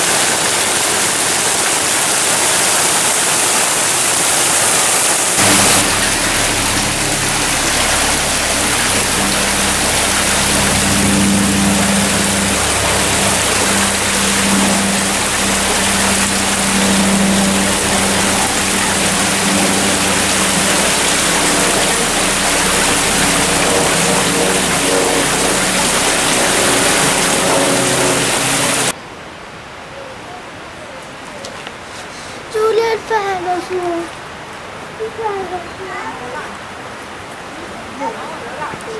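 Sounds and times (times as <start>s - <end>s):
fountain water rushing and splashing: 0.0s - 29.0s, 32.4s - 38.9s.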